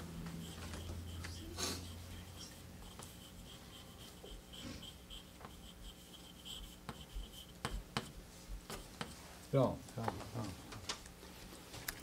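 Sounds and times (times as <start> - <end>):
faint scratching: 0.0 - 10.6.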